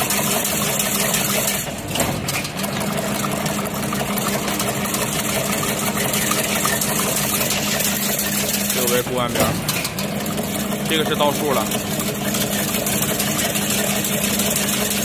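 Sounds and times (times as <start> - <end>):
machine motor hum: 0.0 - 15.0.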